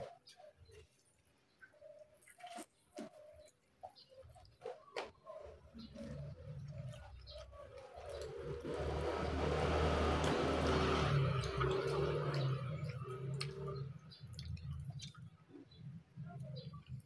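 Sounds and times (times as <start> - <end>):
wet chewing and slurping: 0.0 - 17.0.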